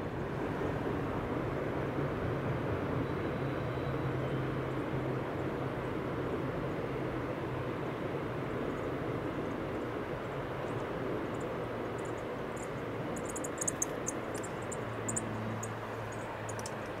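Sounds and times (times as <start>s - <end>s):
train cars rumbling over bridge: 0.0s - 17.0s.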